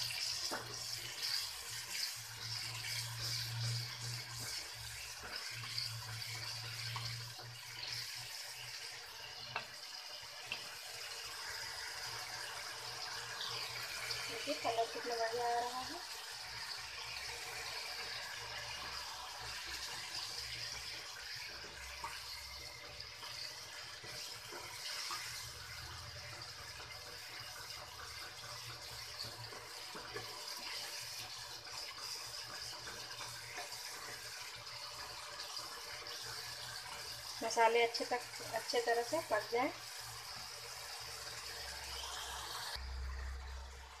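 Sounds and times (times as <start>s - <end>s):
gravy sizzling in a pan: 0.0s - 44.0s.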